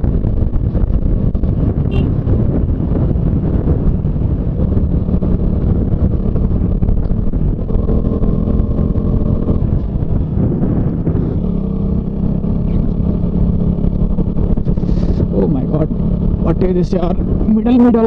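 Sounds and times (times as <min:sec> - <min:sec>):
motorcycle engine running: 0:00.0 - 0:18.0
road rumble: 0:00.0 - 0:18.0.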